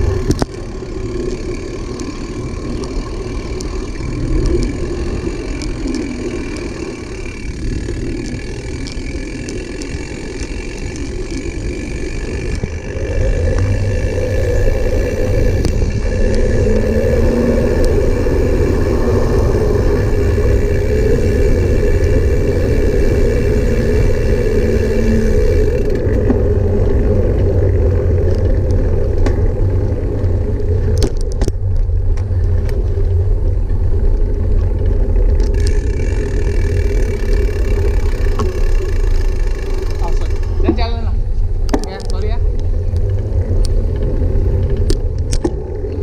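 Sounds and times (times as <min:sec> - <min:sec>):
thin motor whine: 0:00.0 - 0:31.5, 0:34.0 - 0:46.0
small vehicle motor rumbling: 0:00.0 - 0:46.0.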